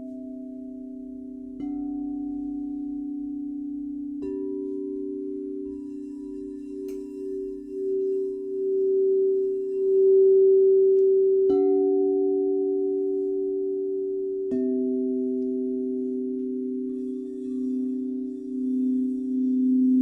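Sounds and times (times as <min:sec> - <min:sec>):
singing bowls ringing: 0:00.0 - 0:20.0.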